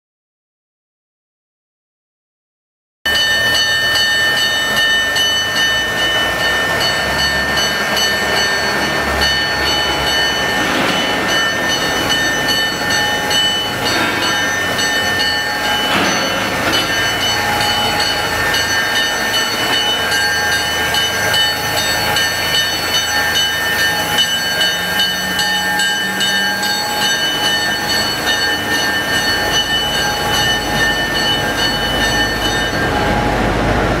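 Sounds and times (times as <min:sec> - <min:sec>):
diesel locomotive running: 0:03.1 - 0:34.0
high-pitched whining tones: 0:03.1 - 0:34.0.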